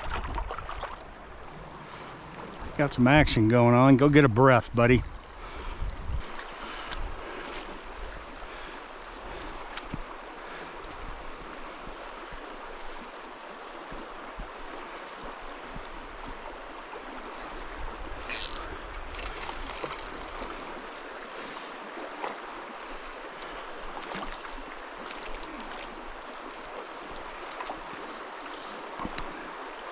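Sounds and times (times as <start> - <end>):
mountain stream rushing: 0.0 - 4.1, 5.3 - 29.9.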